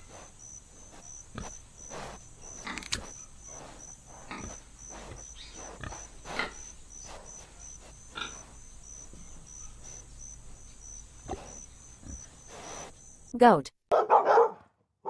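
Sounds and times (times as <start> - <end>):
pig grunting: 0.0 - 12.9.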